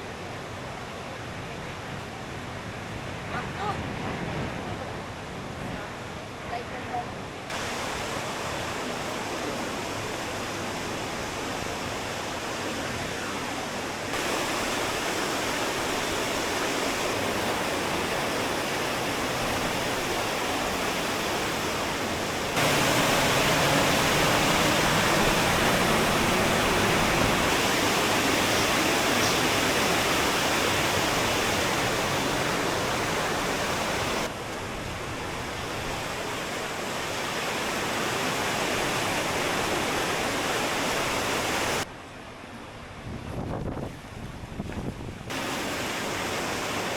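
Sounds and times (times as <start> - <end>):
waterfall and river rushing: 0.0 - 46.9.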